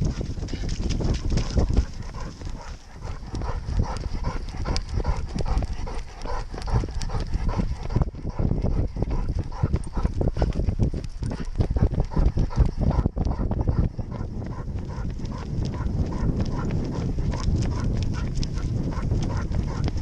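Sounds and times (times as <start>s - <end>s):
dog paws thudding: 0.0s - 20.0s.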